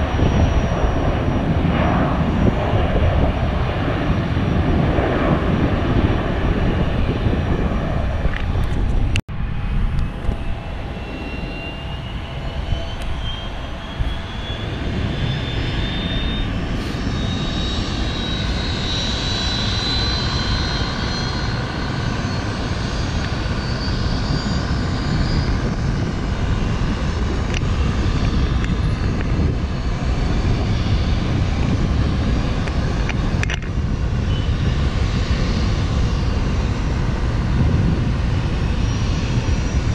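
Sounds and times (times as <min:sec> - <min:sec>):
jet engines rumbling and whining: 0:00.0 - 0:39.9.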